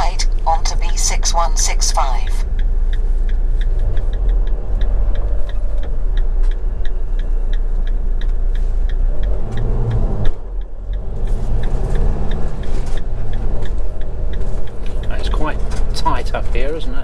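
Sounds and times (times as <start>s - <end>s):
diesel engine: 0.0s - 17.0s
road rumble: 0.0s - 17.0s
turn indicator ticking: 0.0s - 17.0s.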